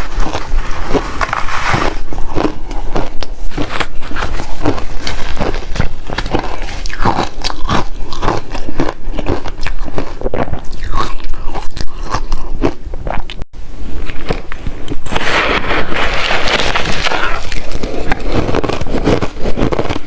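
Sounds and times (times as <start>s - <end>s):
crunching ice between teeth: 0.0s - 13.4s, 16.0s - 20.0s.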